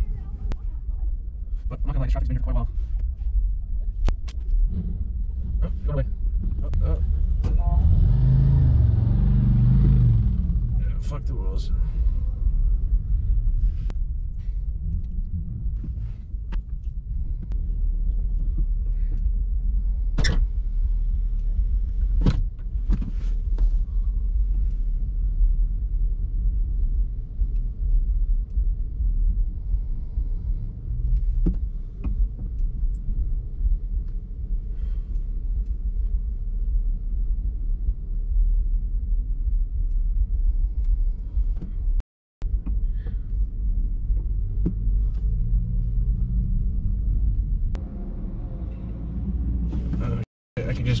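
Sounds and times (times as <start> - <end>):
car engine rumble: 0.0 - 51.0
road noise: 0.0 - 51.0.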